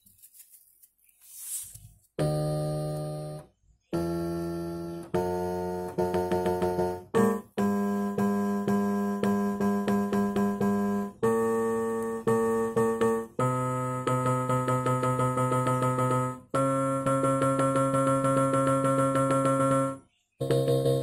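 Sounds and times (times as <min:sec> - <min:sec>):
electronic keyboard notes: 0:02.2 - 0:21.0.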